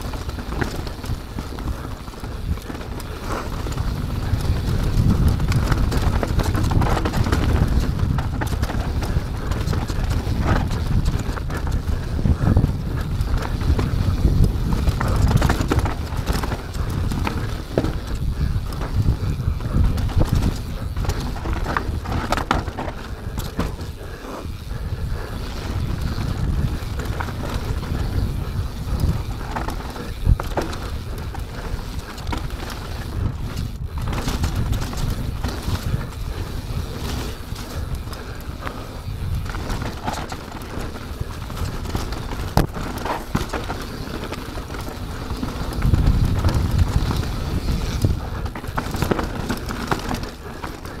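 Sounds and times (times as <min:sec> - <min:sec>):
bike rattling over bumps: 0:00.0 - 0:51.0
bike tyres rumbling on dirt: 0:00.0 - 0:51.0.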